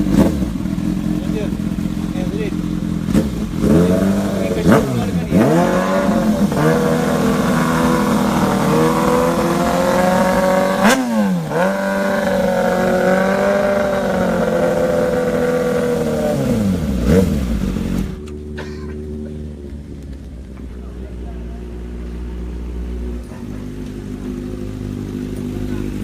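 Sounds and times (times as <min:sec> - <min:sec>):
superbike engines at high revs: 0:00.0 - 0:26.0.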